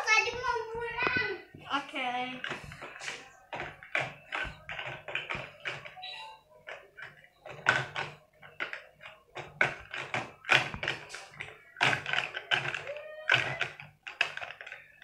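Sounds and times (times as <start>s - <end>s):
plastic toys clacking and tapping: 0.0s - 6.0s, 6.6s - 15.0s.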